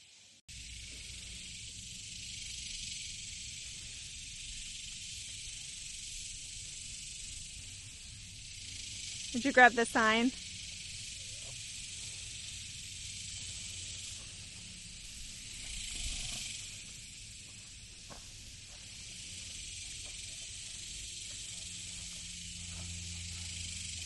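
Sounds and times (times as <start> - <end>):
high hiss: 0.0 - 24.0.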